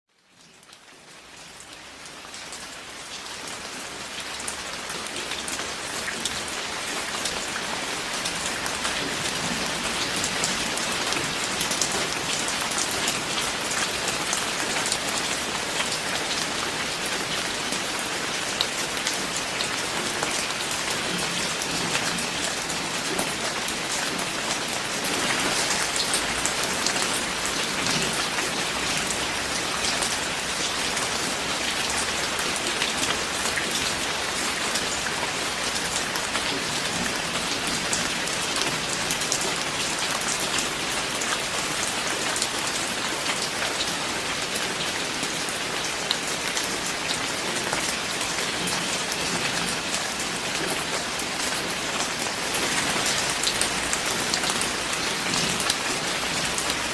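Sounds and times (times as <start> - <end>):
heavy rain: 0.1 - 56.9.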